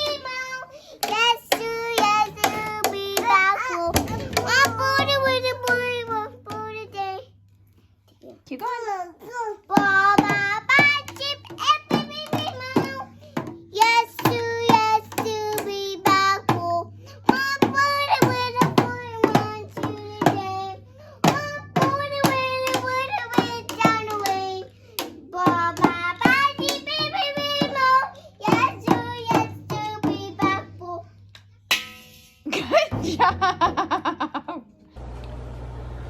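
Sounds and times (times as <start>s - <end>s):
child singing: 0.0s - 7.4s, 8.6s - 31.3s.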